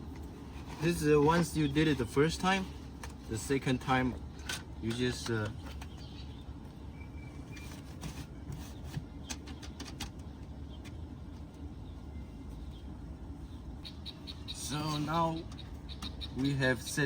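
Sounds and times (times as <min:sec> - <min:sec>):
steady low rumble: 0:00.0 - 0:07.5, 0:10.1 - 0:17.0.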